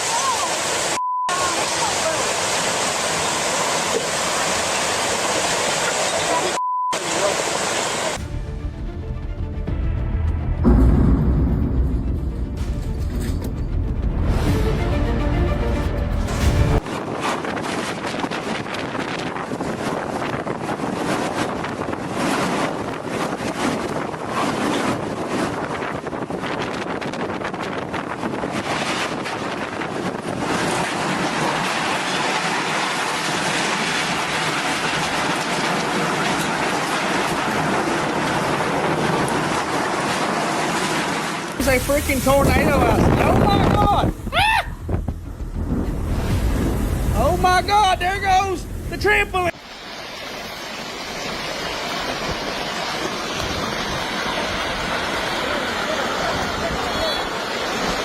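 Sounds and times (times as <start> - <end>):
fast water rushing: 0.0 - 8.4, 14.3 - 58.0
heavy rain: 0.0 - 58.0
wind: 0.0 - 58.0.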